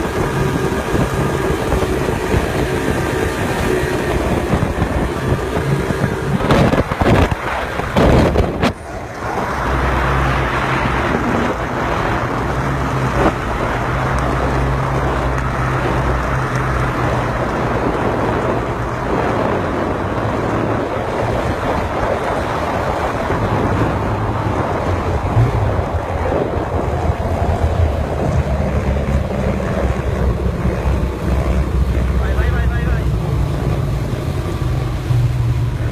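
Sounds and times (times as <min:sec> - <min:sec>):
engine running: 0:00.0 - 0:35.9
wind noise on microphone: 0:00.0 - 0:35.9.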